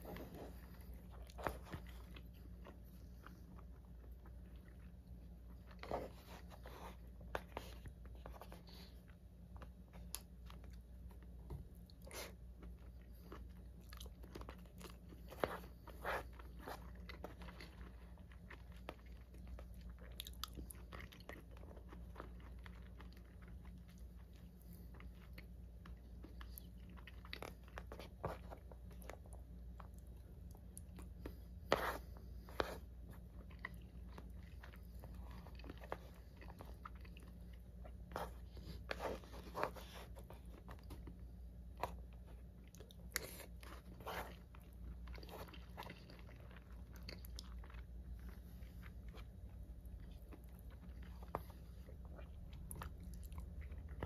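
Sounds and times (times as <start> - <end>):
steady low hum: 0.0 - 54.0
wet chewing and mouth smacks: 0.1 - 54.0.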